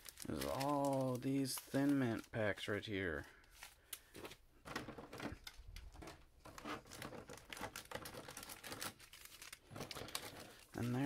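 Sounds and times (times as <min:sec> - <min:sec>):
foil packs crinkling: 0:00.0 - 0:11.0.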